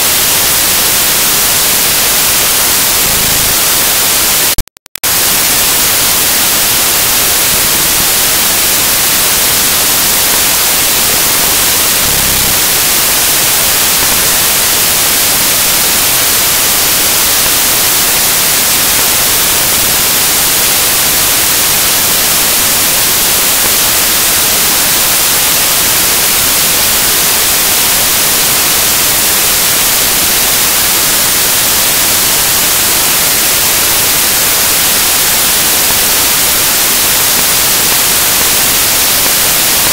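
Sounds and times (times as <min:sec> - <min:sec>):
white-noise static hiss: 0:00.0 - 0:39.9.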